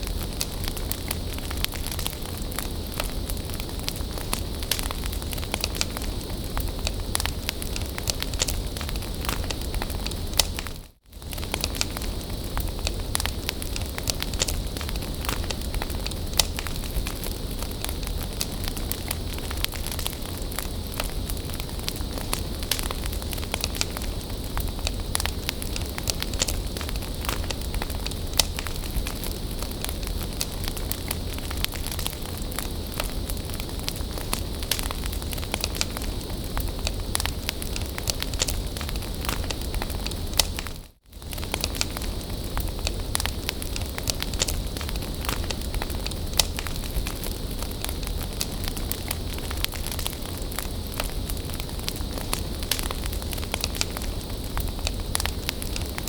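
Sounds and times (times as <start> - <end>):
bonfire crackling and popping: 0.0 - 56.0
low fire rumble: 0.0 - 56.0.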